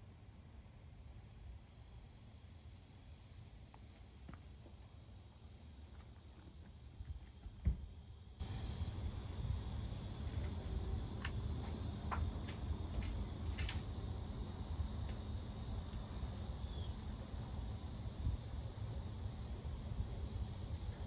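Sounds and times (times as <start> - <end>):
high insect drone: 0.4 - 21.0.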